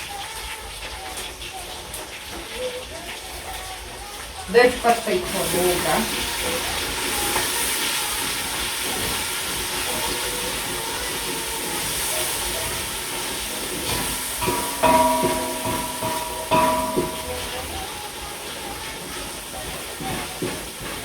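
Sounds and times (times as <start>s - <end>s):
food sizzling in a pot: 0.0s - 21.0s.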